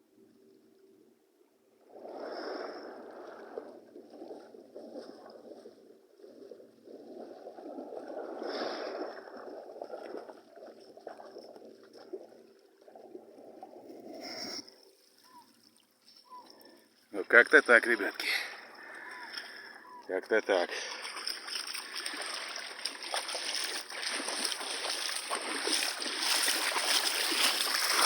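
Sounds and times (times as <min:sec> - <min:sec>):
sea water splashing: 0:01.9 - 0:14.2, 0:17.8 - 0:28.0.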